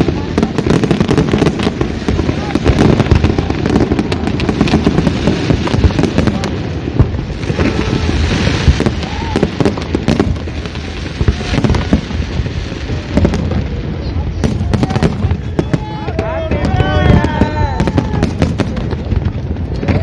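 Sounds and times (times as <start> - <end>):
fireworks bangs: 0.0 - 20.0
hissing crackle: 0.0 - 20.0.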